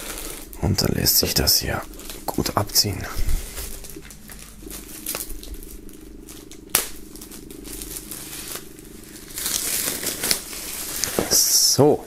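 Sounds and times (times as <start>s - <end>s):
plastic film crumpling: 0.0s - 12.0s
plastic film peeling crackle: 0.0s - 12.0s.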